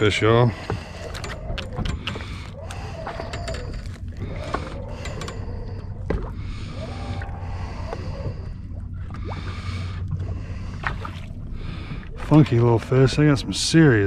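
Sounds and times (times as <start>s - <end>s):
boat engine hum: 0.0s - 14.0s
water noise: 0.0s - 14.0s.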